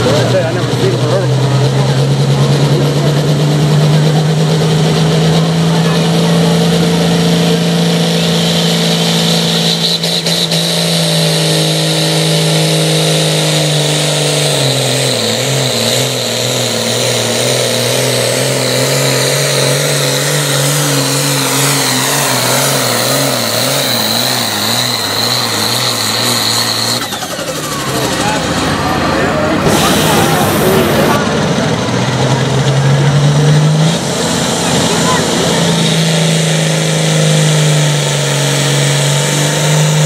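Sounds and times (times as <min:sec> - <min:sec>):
diesel tractor engine at full throttle: 0:00.0 - 0:40.0.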